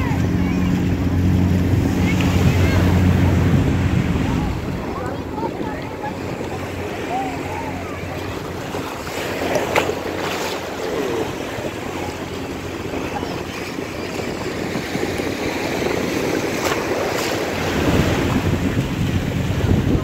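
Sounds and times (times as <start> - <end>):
small waves washing: 0.0 - 20.0
wind rumbling on microphone: 0.0 - 20.0.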